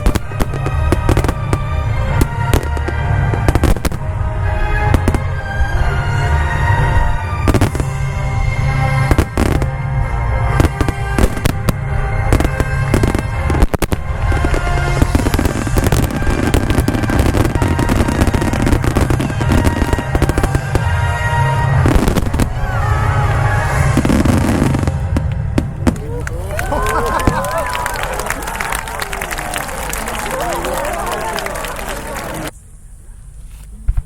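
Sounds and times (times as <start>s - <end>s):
music playing: 0.0s - 32.5s
fireworks bursting and crackling: 0.0s - 32.6s.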